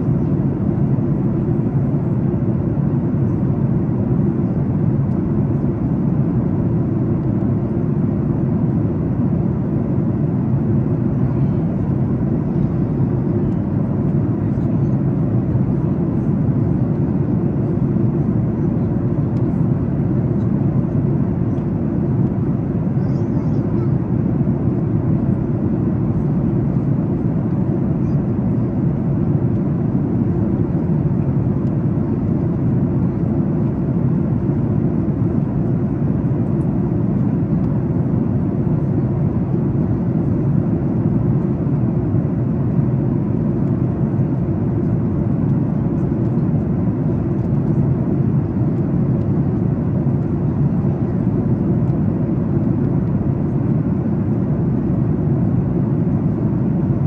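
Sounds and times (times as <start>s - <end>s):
airflow over fuselage: 0.0s - 57.0s
jet engines droning: 0.0s - 57.0s.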